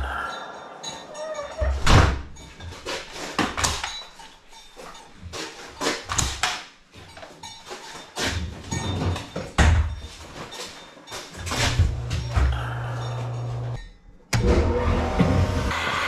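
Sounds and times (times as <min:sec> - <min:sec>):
hoses and fittings clacking: 0:00.9 - 0:14.4.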